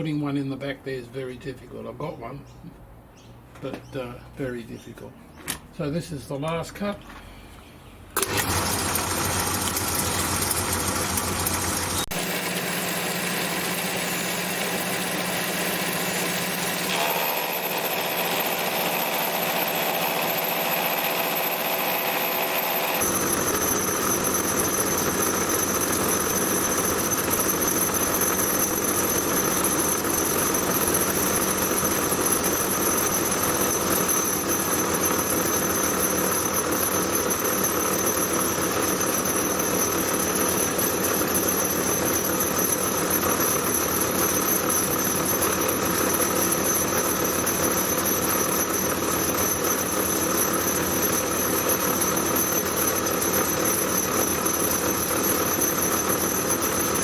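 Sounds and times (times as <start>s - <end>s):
metal lathe motor whining: 8.2s - 57.0s.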